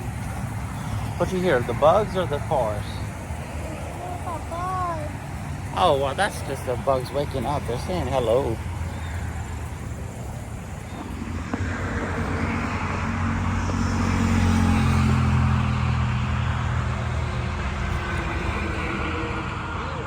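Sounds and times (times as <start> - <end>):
vehicle engine and tyre hum: 0.0 - 20.0.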